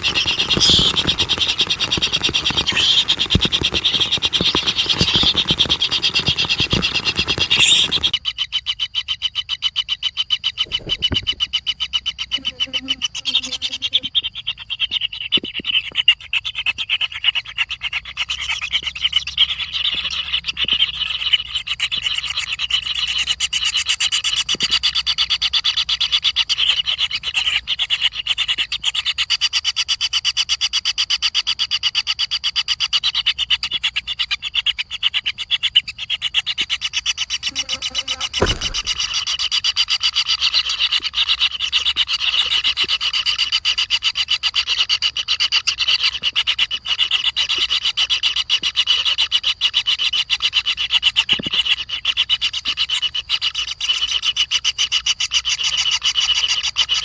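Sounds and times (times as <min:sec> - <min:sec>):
high-pitched pulsing animal calls: 0:00.0 - 0:57.0.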